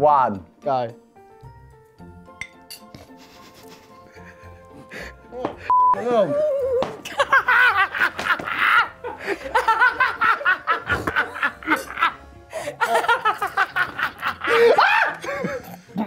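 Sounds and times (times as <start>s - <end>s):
people laughing: 3.0s - 16.0s.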